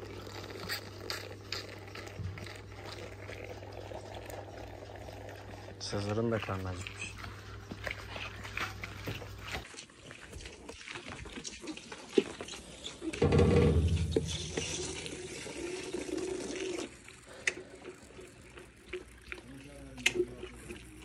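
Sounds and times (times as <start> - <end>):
calf sucking from bottle: 0.0 - 21.0.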